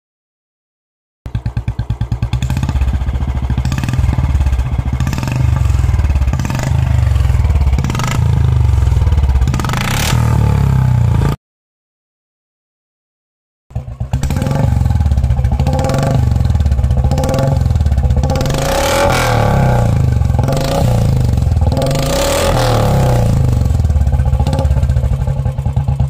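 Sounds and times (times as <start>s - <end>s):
motorcycle engine idling: 1.3s - 11.4s, 13.7s - 26.0s
motorcycle throttle revving: 1.3s - 11.4s, 13.7s - 26.0s.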